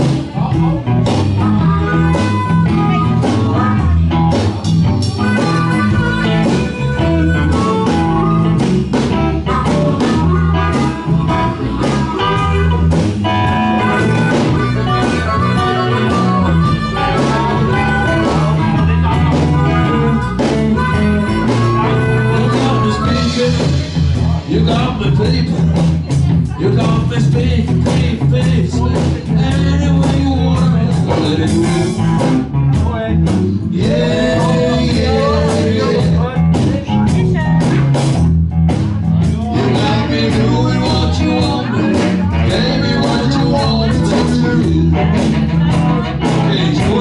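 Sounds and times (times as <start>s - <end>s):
electric guitar: 0.0s - 47.0s
live blues band playing: 0.0s - 47.0s.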